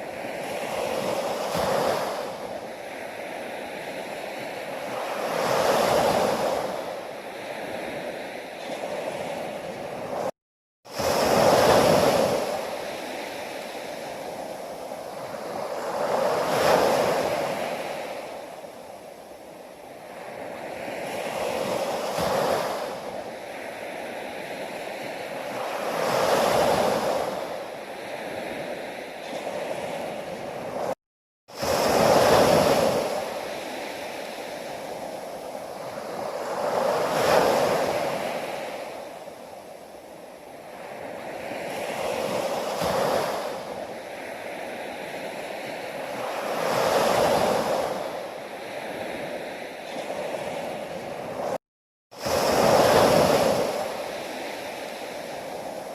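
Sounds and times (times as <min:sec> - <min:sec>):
sea waves breaking: 0:00.0 - 0:10.3, 0:10.9 - 0:55.9.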